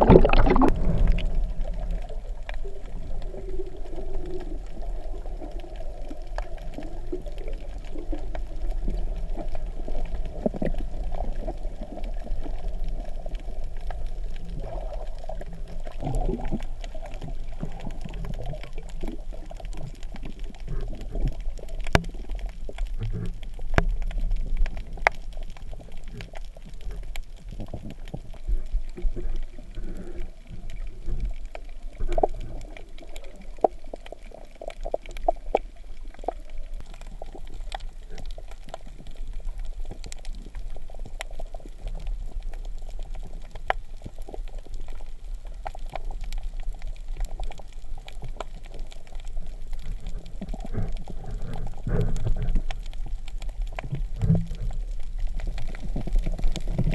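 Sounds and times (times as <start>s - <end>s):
muffled water sloshing and bubbling: 0.0s - 56.9s.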